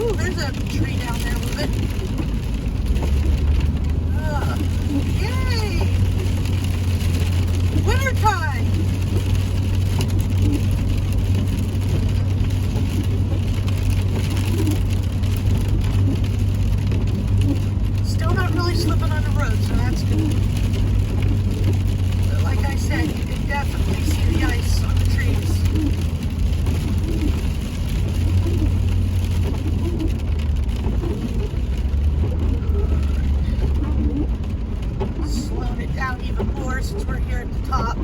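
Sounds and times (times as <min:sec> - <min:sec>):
car engine: 0:00.0 - 0:38.0
tyres on wet road: 0:00.0 - 0:38.0.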